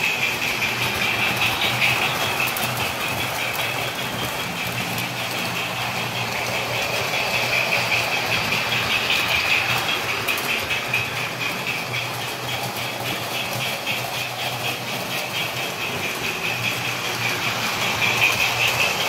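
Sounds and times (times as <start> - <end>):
model train motor whine: 0.0 - 19.0
train wheels on track: 0.0 - 19.0.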